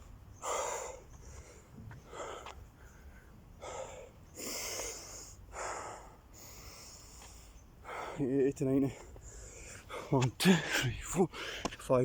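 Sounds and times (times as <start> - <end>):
man breathing hard: 0.4 - 8.2, 8.9 - 11.7.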